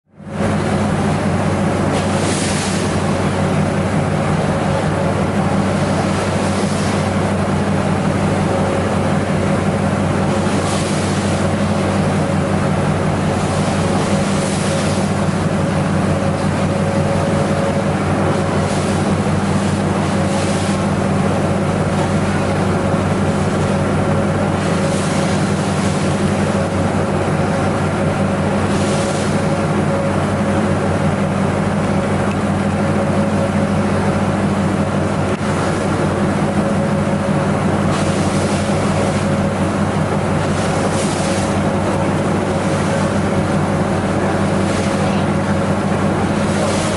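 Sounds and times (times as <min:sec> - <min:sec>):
ferry engines droning: 0:00.2 - 0:46.9
rushing wind and water: 0:00.2 - 0:46.9.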